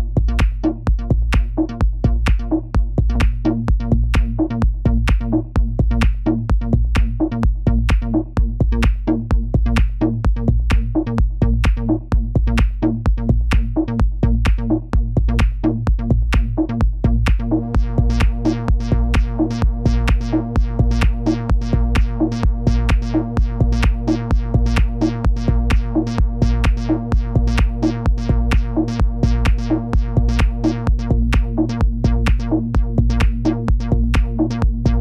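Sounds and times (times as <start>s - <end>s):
drum machine beat: 0.0s - 35.0s
synth drone and bass: 0.0s - 35.0s.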